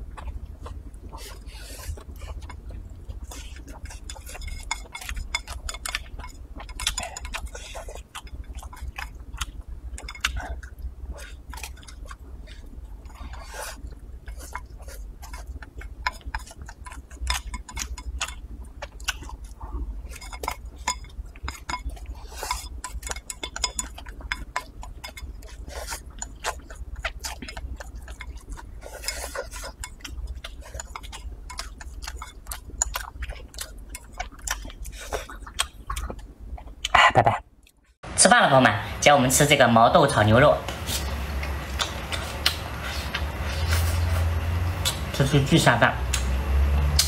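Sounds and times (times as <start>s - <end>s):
chewing: 0.0s - 37.0s, 40.6s - 45.2s
steady low hum: 0.0s - 47.0s.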